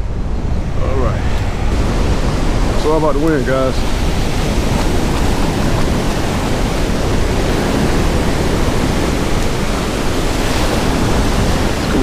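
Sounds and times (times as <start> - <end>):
strong wind on microphone: 0.0 - 12.0
whitewater washing up beach: 0.0 - 12.0
surf breaking: 0.8 - 12.0.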